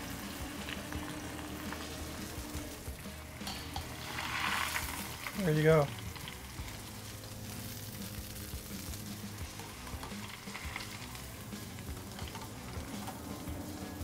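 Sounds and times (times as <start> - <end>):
deep-frying sizzle with crackles: 0.0 - 14.0.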